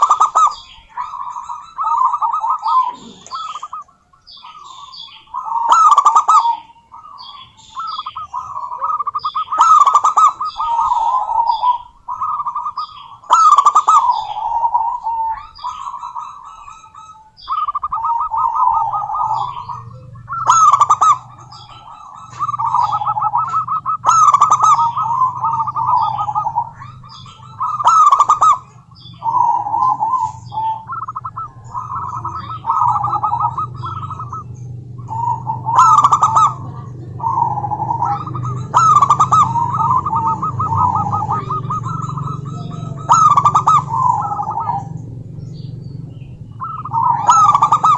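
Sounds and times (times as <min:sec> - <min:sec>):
dove cooing: 0:00.0 - 0:47.9
faint low hum: 0:00.0 - 0:47.9.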